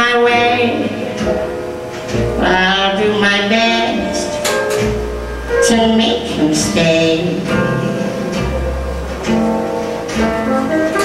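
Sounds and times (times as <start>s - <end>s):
bass line: 0.0s - 11.0s
guitar: 0.0s - 11.0s.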